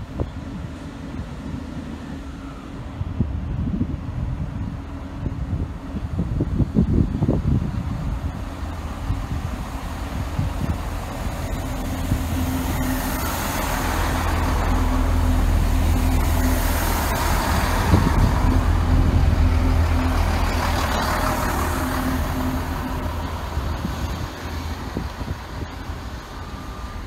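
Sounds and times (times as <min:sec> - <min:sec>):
train engine hum: 0:00.0 - 0:27.0.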